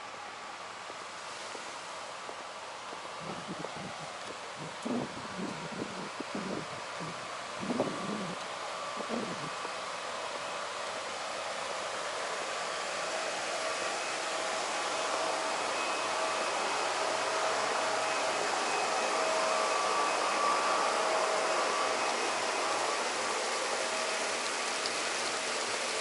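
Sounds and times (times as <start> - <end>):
faint steady hum: 0.0 - 26.0
water rushing from fountain: 0.0 - 26.0.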